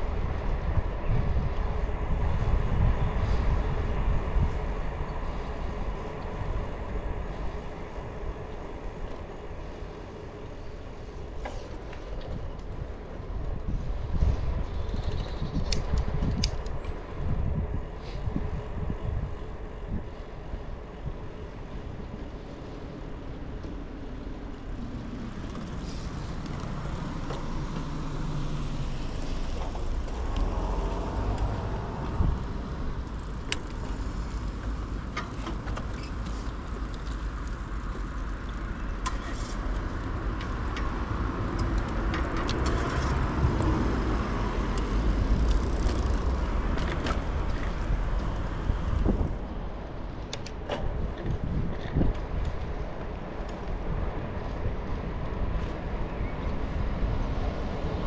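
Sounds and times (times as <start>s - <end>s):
wind on microphone: 0.0s - 9.0s, 9.6s - 23.6s, 24.7s - 35.1s, 39.6s - 58.0s
bicycle tyres rolling on path: 0.0s - 58.0s
motor traffic passing: 0.0s - 58.0s.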